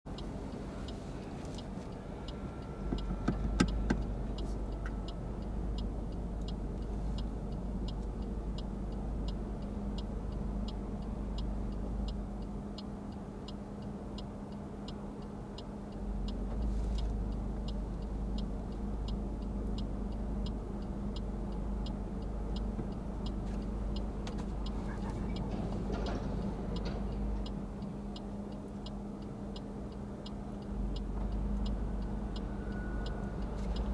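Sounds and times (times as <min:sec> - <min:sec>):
engine and road hum: 0:00.0 - 0:33.9
turn signal clicking: 0:00.1 - 0:33.9.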